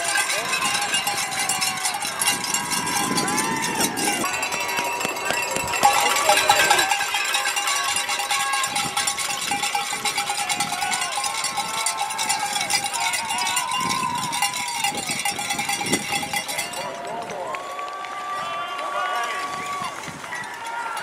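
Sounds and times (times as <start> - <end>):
cowbells ringing: 0.0 - 17.3
spectators shouting and cheering: 0.0 - 21.0.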